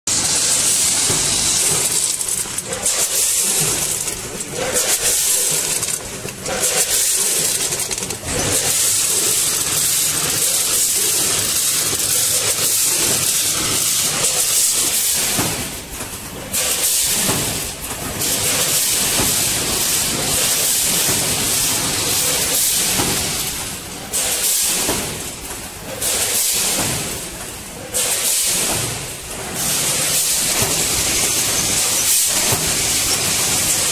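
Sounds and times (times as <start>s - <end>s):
packing machine hissing: 0.1s - 33.9s.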